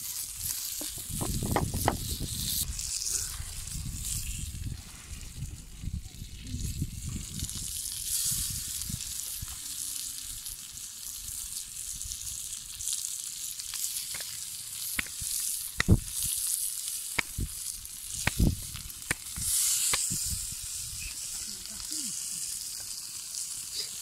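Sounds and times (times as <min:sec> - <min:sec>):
chicken sizzling on hot stone: 0:00.0 - 0:24.0.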